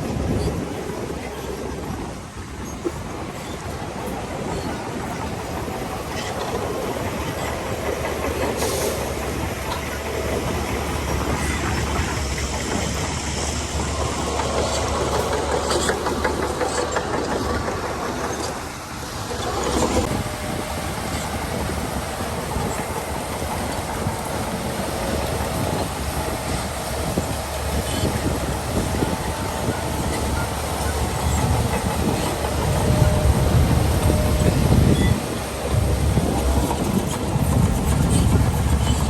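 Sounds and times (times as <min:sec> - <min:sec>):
bulldozer diesel engine drone: 0:00.0 - 0:39.0
steel tracks clanking: 0:00.0 - 0:39.0.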